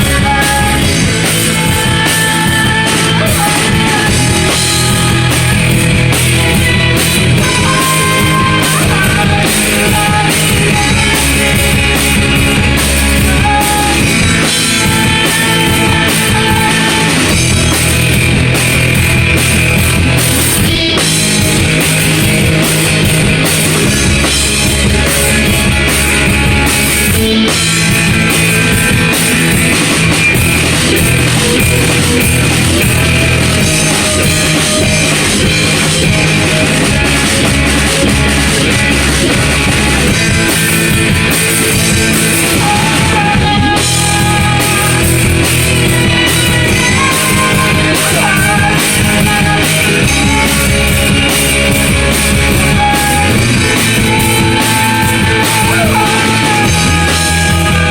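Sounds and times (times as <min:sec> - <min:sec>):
bass: 0:00.0 - 0:57.9
drum kit: 0:00.0 - 0:57.9
guitars: 0:00.0 - 0:57.9.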